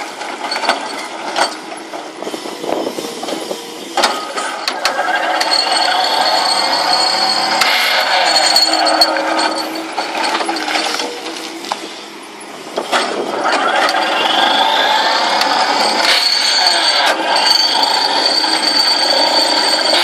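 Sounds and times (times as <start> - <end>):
excavator ripper mechanical noise: 0.0 - 20.0
rising hydraulic whine: 0.0 - 20.0.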